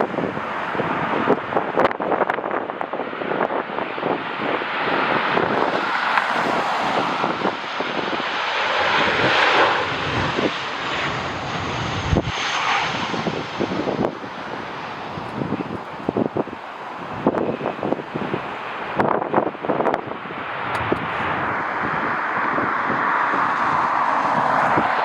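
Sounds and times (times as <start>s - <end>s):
jet engines roaring: 0.0s - 25.0s
wind buffeting microphone: 0.0s - 25.0s.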